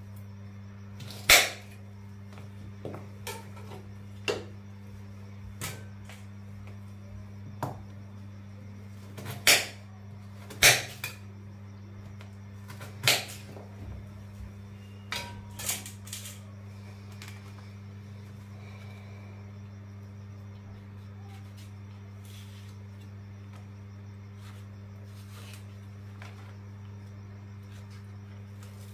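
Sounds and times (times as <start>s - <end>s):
low electrical hum: 0.0s - 28.9s.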